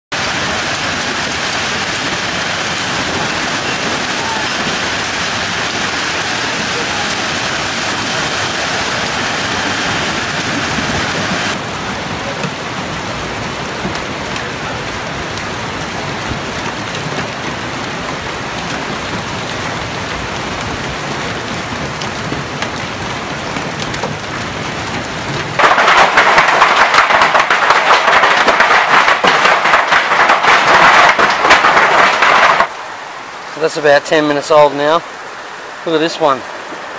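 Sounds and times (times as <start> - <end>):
hail and rain hissing: 0.1 - 36.9
hailstones rattling: 0.2 - 32.9.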